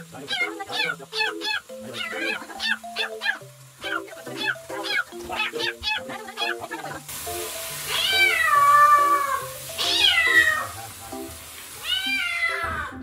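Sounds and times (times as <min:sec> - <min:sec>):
kitten yowling: 0:00.3 - 0:06.9, 0:07.9 - 0:10.8, 0:11.8 - 0:13.0.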